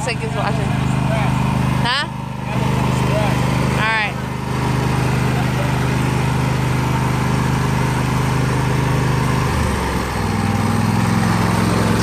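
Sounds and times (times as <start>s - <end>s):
riding lawn mower engine: 0.0s - 12.0s.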